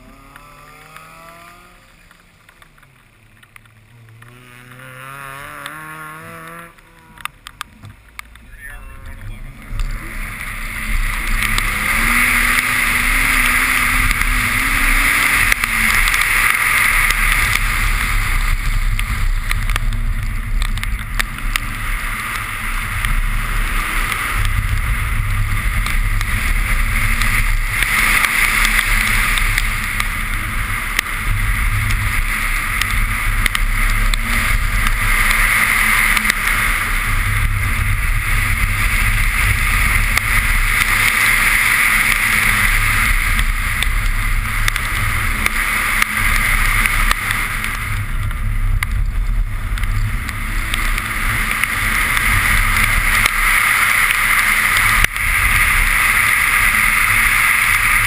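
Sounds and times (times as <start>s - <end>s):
car engine running: 0.0s - 58.0s
tyre spray and wind rush: 9.2s - 58.0s.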